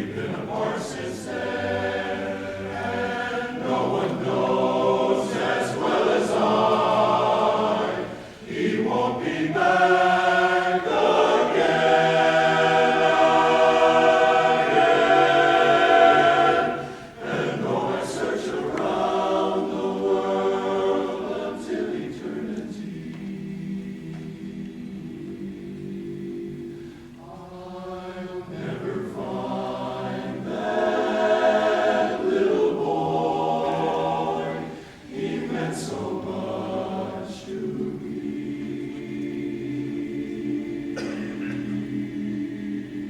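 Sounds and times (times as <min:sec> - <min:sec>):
choir singing a cappella: 0:00.0 - 0:43.0.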